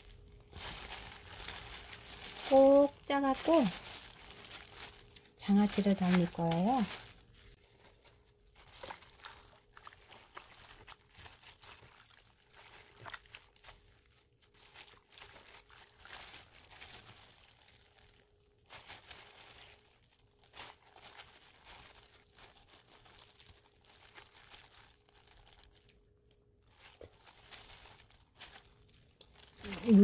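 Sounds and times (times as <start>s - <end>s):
plastic glove crinkling: 0.0s - 30.0s
wet squishing of leaves: 0.0s - 30.0s.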